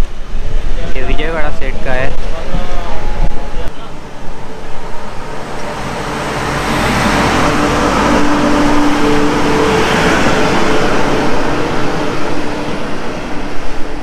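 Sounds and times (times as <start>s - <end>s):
moving train rumble: 0.0s - 14.0s.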